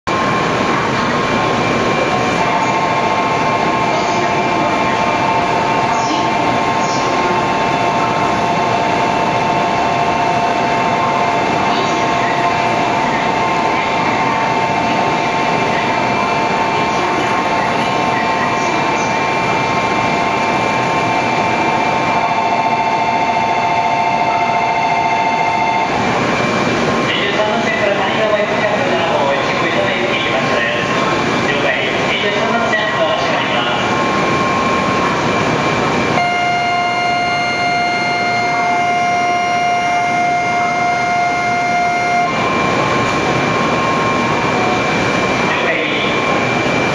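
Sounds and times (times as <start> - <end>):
train equipment humming: 0.1 - 46.9.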